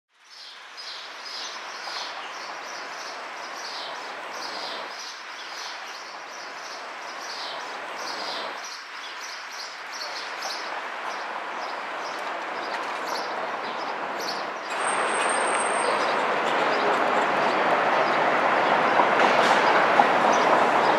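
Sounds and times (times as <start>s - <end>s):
city street noise: 0.1s - 20.9s.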